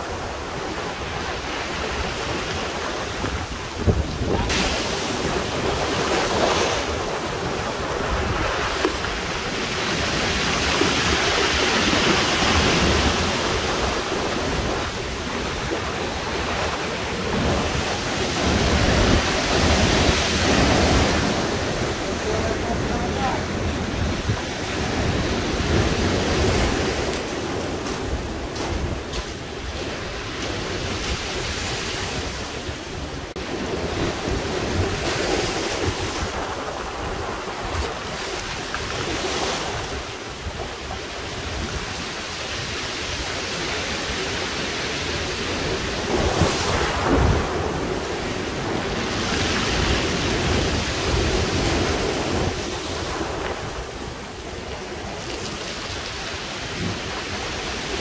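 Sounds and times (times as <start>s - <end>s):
ocean surf on pebble beach: 0.0s - 58.0s.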